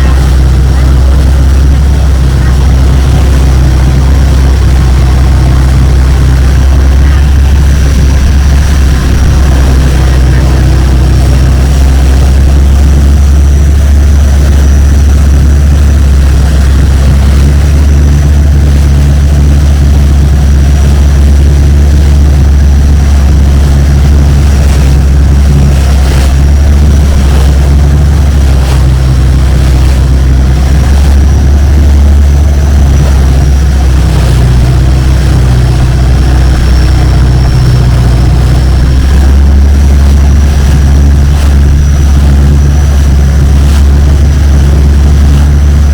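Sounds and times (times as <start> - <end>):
boat engine drone: 0.0 - 45.9
faint high whine: 0.0 - 45.9.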